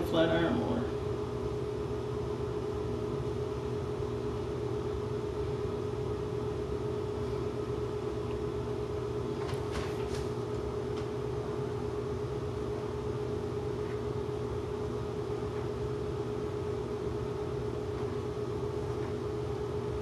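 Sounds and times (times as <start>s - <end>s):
mechanical hum with tone: 0.0s - 20.0s.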